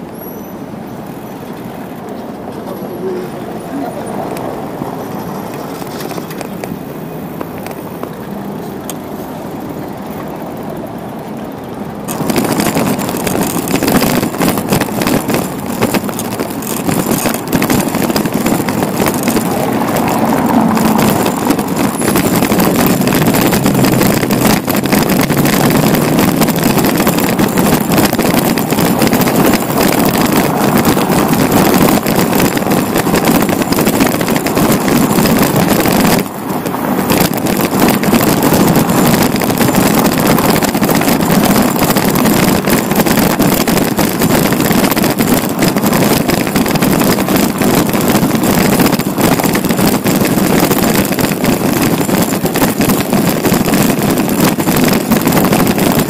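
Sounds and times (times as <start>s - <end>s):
bicycle road noise: 0.0s - 56.0s
wind rushing over microphone: 0.0s - 56.0s.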